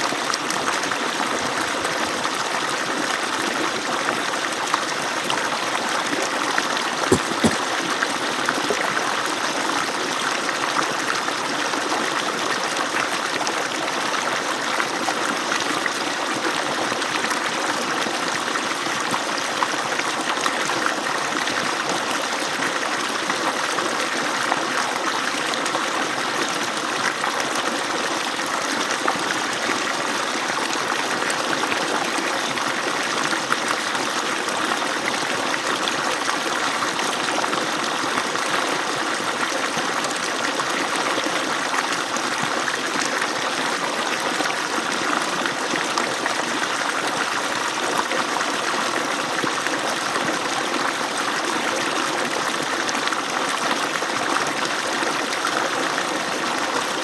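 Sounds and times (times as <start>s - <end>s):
water pouring from pump outlet: 0.0s - 57.0s.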